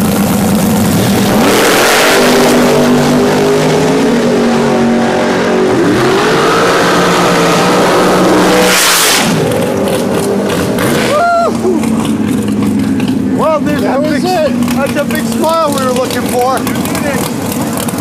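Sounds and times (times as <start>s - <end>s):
dragster engine at full throttle: 0.0s - 18.0s
loud rush of noise: 0.1s - 18.0s.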